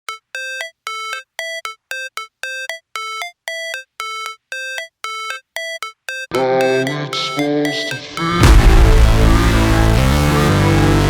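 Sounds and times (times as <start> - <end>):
synthesizer beeping melody: 0.1 - 11.0.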